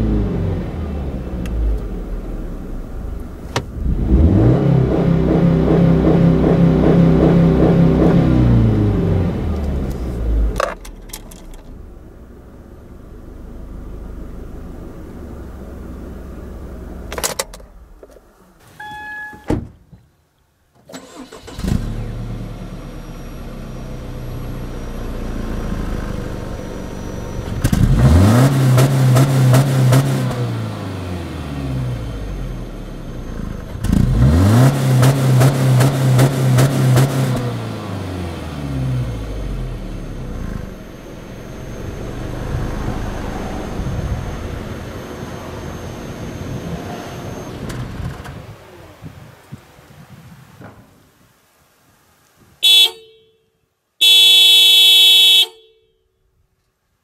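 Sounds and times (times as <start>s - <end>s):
car engine revving: 0.0s - 17.6s, 21.0s - 49.2s.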